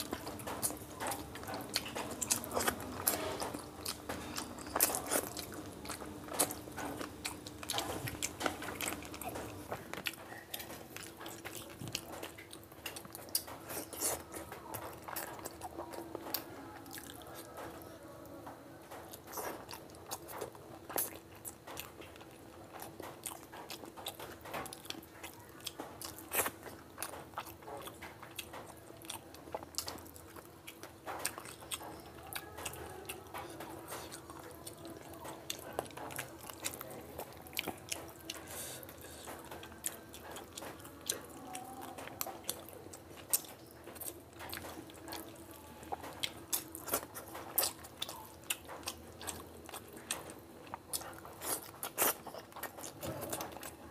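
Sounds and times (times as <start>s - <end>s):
faint steady hum: 0.0s - 53.9s
man chewing food: 0.0s - 53.9s.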